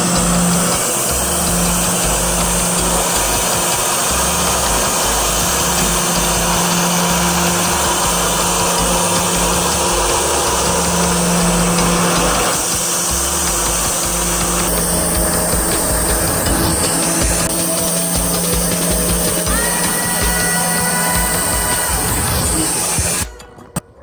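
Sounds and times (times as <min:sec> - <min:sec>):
band sawmill running: 0:00.0 - 0:23.5
low mechanical tone: 0:00.0 - 0:24.0.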